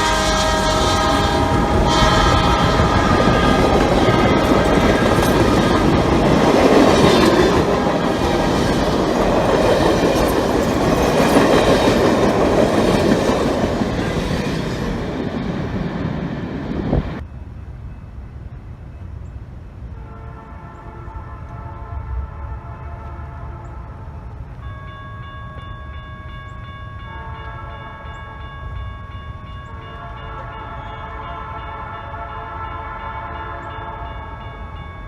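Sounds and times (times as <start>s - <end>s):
train rolling rumble: 0.0s - 32.0s.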